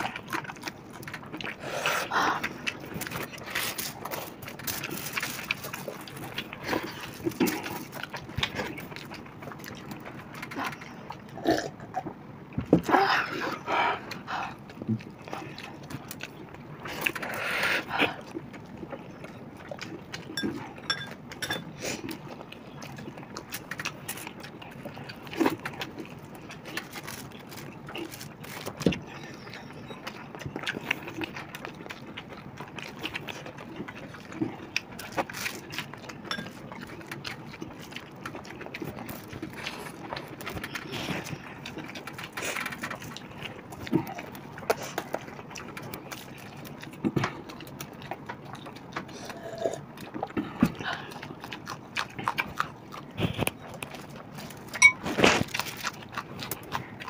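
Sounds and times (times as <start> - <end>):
chewing and lip-smacking: 0.0 - 57.0.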